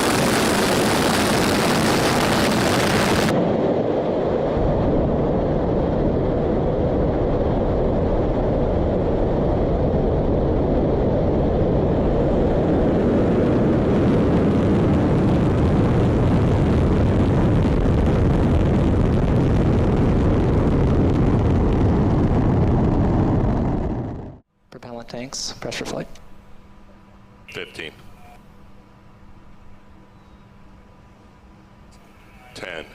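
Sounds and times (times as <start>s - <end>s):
rocket engines roaring: 0.0s - 24.4s, 25.2s - 30.0s, 30.6s - 32.9s.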